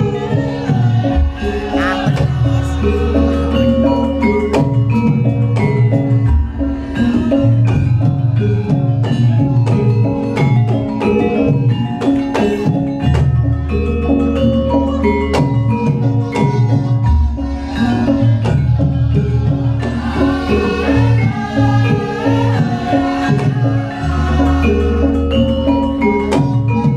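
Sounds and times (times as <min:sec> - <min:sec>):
mallet percussion notes: 0:00.0 - 0:26.9.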